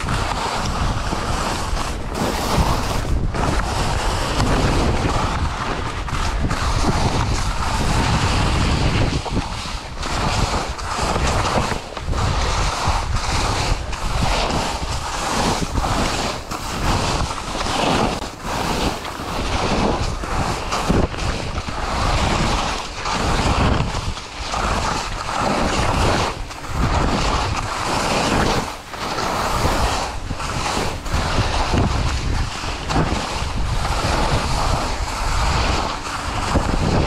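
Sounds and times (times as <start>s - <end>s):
skis scraping through snow: 0.0s - 37.0s
wind rushing over microphone: 0.0s - 37.0s.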